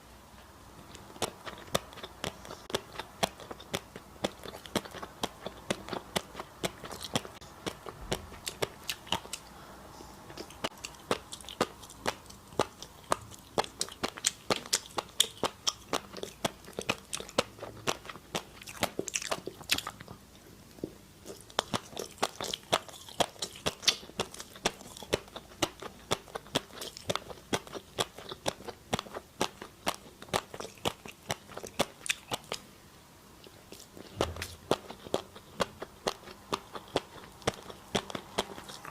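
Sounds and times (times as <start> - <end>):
person chewing crunchy food: 0.8 - 9.6, 10.2 - 32.7, 33.4 - 38.9.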